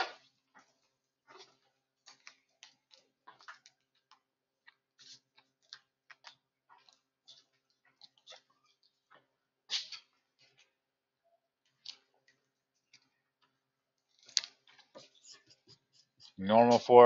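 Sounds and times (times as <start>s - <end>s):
faint clicks and taps: 0.2s - 10.8s, 11.6s - 16.8s.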